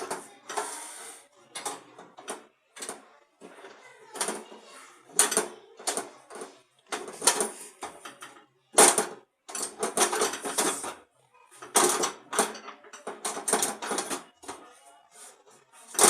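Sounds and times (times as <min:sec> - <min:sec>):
scraping and clicking on metal parts: 0:00.0 - 0:16.0.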